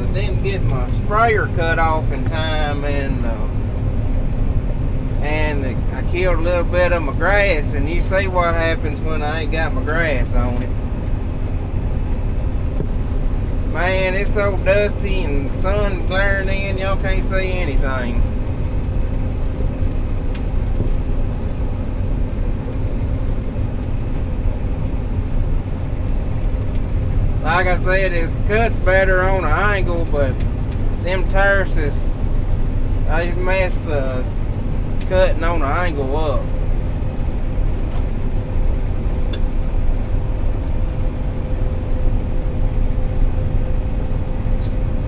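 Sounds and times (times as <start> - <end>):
combine harvester running: 0.0 - 45.0
steady hum: 0.0 - 45.0.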